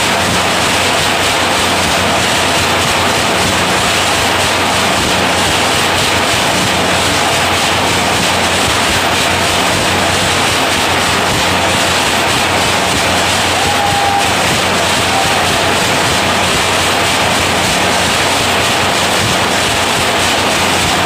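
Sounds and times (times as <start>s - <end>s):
nail making machine din: 0.0s - 21.0s.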